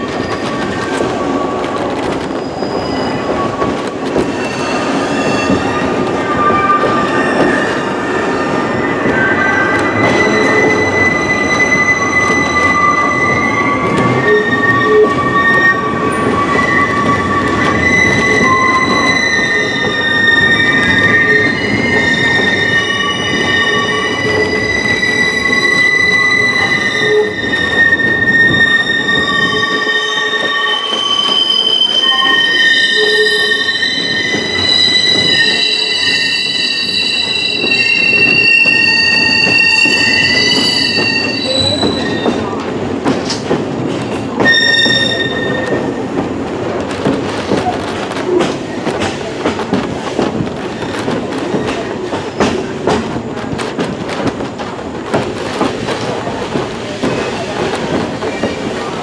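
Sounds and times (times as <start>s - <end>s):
train wheels squealing on rails: 0.0s - 53.3s, 54.5s - 59.0s
train cars rumbling: 0.0s - 59.0s.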